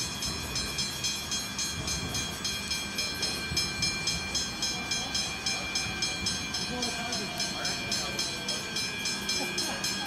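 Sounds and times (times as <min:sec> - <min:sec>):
level crossing bells ringing: 0:00.0 - 0:10.0.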